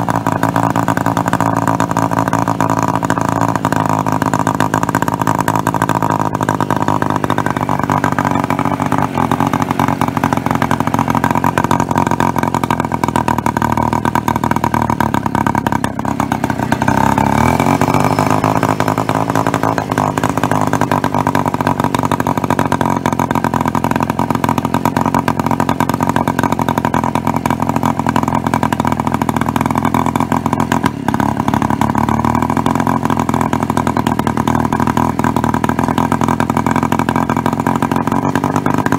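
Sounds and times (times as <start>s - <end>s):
moped engine running: 0.0s - 38.9s.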